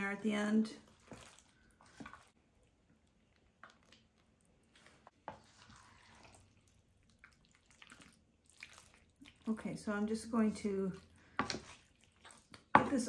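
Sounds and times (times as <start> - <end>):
spoon stirring thick food: 0.8 - 9.5, 10.4 - 13.0.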